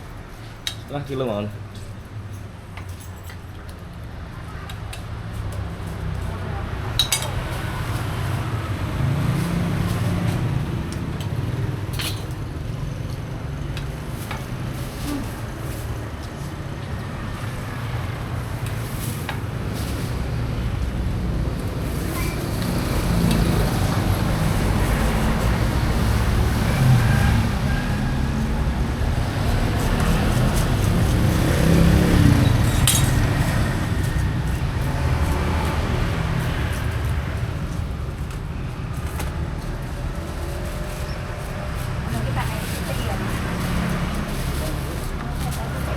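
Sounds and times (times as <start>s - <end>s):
vehicle engines running and passing: 0.0s - 45.9s.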